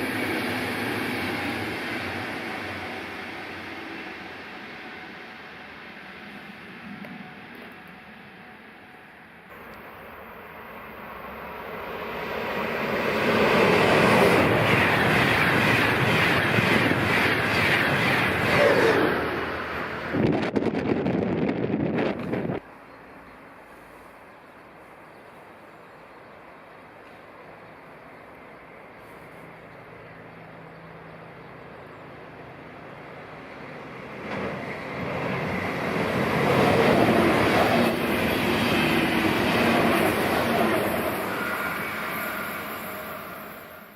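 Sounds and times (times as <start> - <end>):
train passing at high speed: 0.0 - 43.9.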